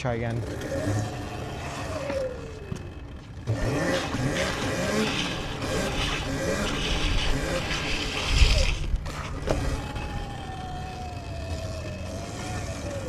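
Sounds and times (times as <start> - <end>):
electric dirt bike motor whining: 0.0 - 13.0.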